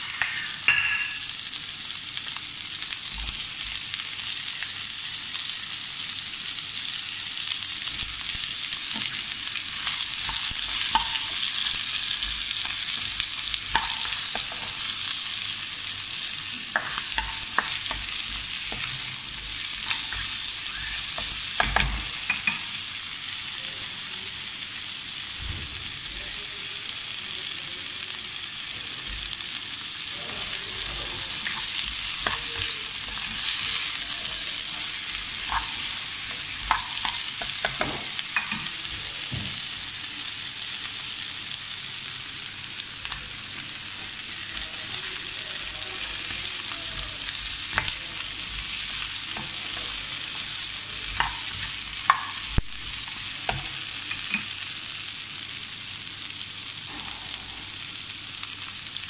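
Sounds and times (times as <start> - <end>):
food sizzling in a wok: 0.0 - 59.0.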